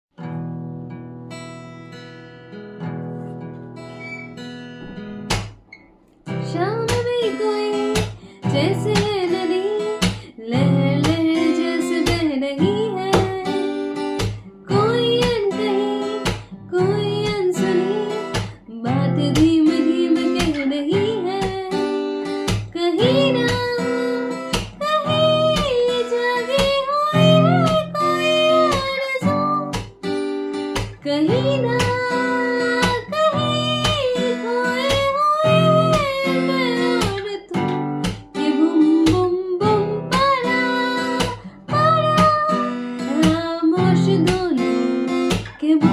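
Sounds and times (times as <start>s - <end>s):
acoustic guitar: 0.1s - 45.9s
woman singing wordless melody: 6.4s - 29.9s, 31.0s - 45.9s.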